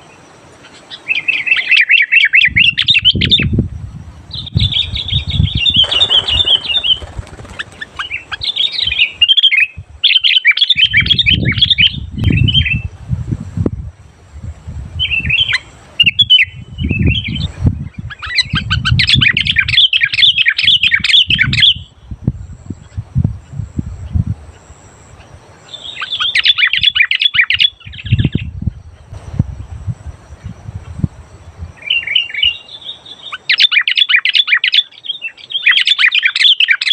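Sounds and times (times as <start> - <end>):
bird singing: 0.0 - 13.0, 13.8 - 36.9.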